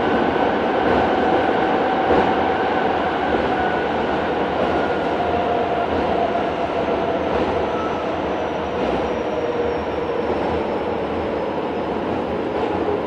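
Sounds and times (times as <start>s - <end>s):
rumble of wheels on rail: 0.0s - 13.0s.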